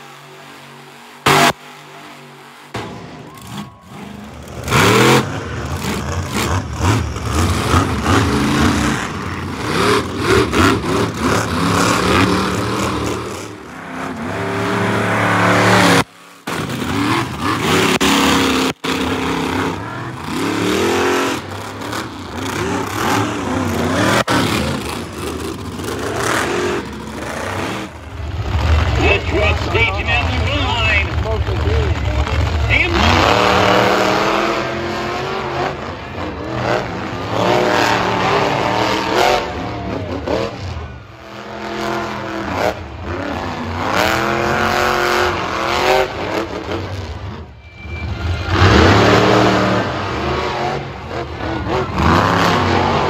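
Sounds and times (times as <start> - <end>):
monster truck engines revving: 0.0 - 53.0.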